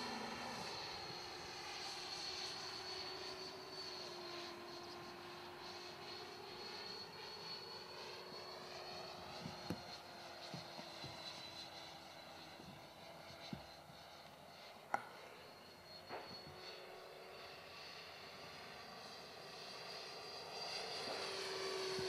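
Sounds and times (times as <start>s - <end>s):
model jet motor whine: 0.0s - 22.0s.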